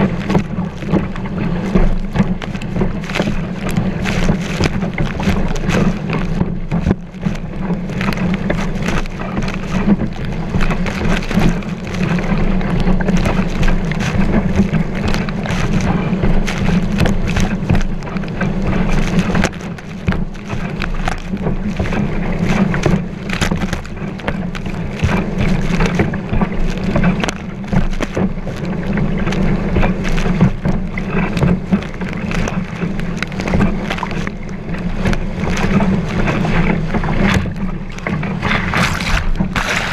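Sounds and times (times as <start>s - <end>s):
board slapping on waves: 0.0s - 39.9s
water rush and spray: 0.0s - 39.9s
wind buffeting microphone: 0.0s - 39.9s.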